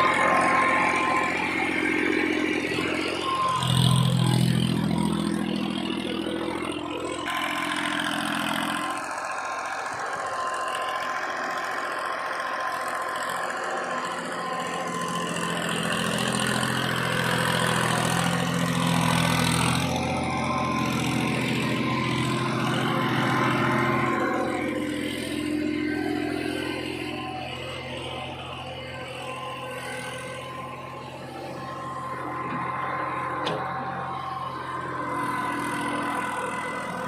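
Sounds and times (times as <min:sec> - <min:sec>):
tractor diesel engine: 0:00.0 - 0:37.0.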